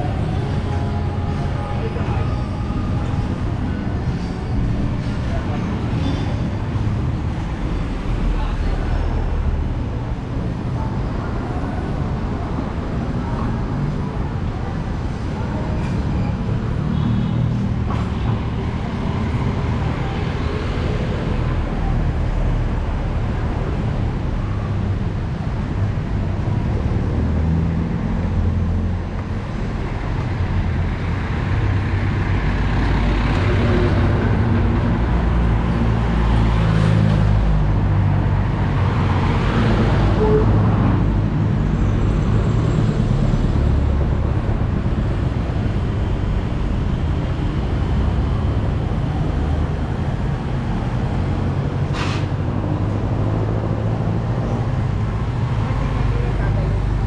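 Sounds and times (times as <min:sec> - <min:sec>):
low traffic rumble: 0:00.0 - 0:57.0
vehicles passing close by: 0:00.0 - 0:57.0.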